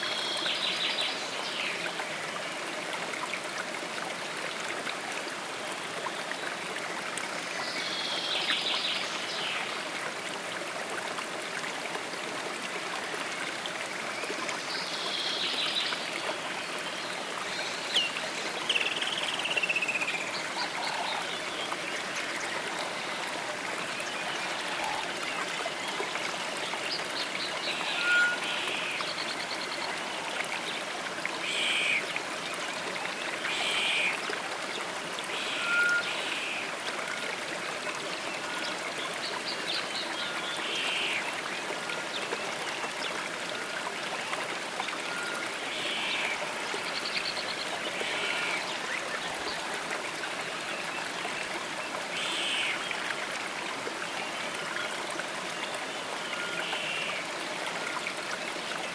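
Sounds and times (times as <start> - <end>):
stream running: 0.0 - 58.9.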